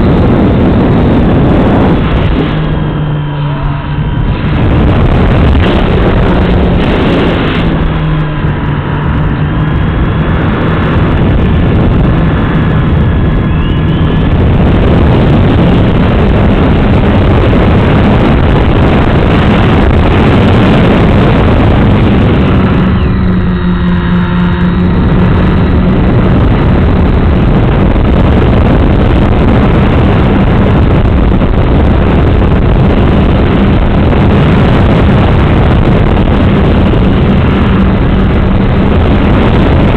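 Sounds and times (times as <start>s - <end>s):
model airplane motor buzzing: 0.0s - 39.9s
wind rush over microphone: 0.0s - 39.9s.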